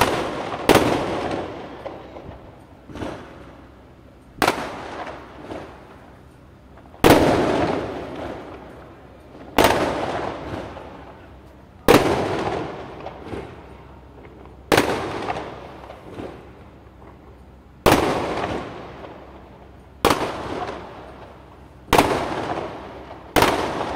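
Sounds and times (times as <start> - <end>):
fireworks bangs with echo: 0.0 - 23.9.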